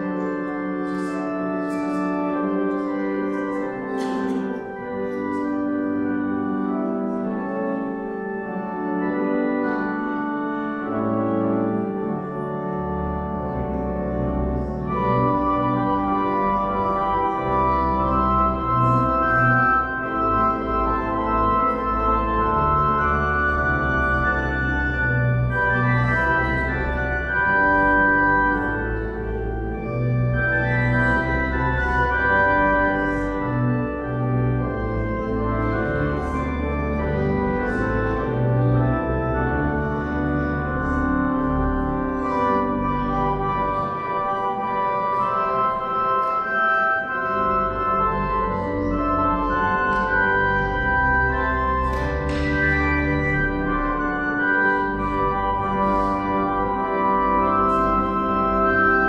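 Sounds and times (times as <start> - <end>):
church organ chords: 0.0 - 59.0
deep organ pedal bass: 0.0 - 59.0.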